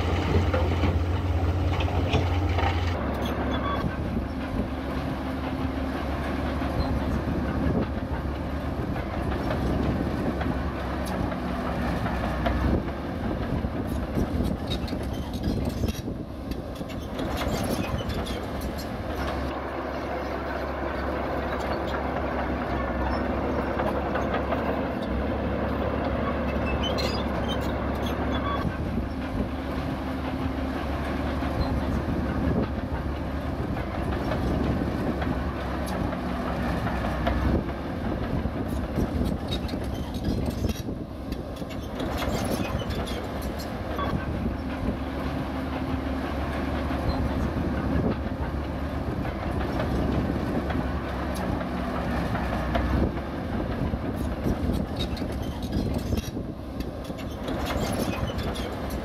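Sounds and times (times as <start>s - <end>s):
diesel engine running: 0.0s - 59.0s
steel tracks clattering: 0.0s - 59.0s.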